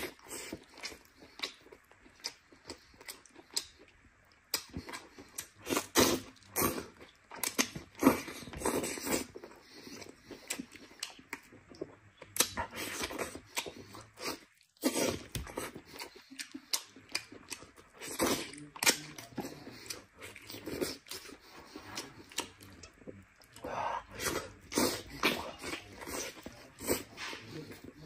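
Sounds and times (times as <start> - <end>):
wet chewing smacks and clicks: 0.0 - 28.0.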